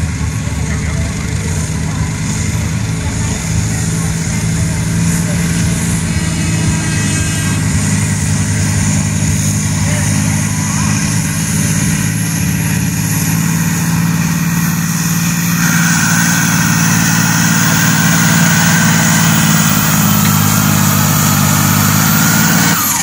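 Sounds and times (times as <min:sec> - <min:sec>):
diesel tractor engine at full throttle: 0:00.0 - 0:23.0
high whine: 0:00.0 - 0:23.0.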